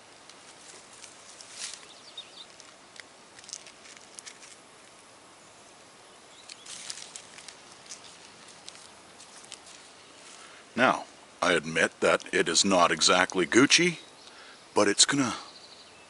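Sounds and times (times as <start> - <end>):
leaves rustling and crackling: 0.0 - 15.6.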